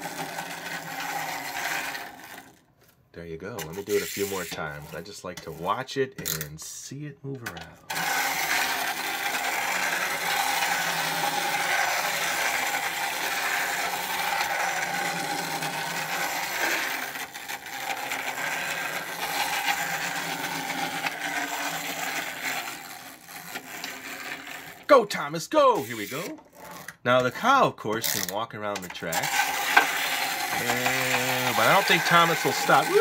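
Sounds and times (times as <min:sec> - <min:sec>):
toy train motor whirring: 0:00.0 - 0:02.7, 0:03.6 - 0:05.6, 0:07.9 - 0:25.0, 0:25.7 - 0:27.0, 0:28.0 - 0:33.0.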